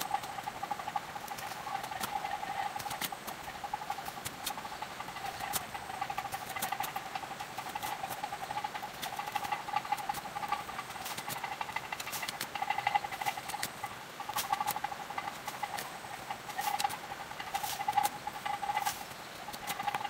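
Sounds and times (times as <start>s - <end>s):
steady pulsing tone: 0.0s - 20.0s.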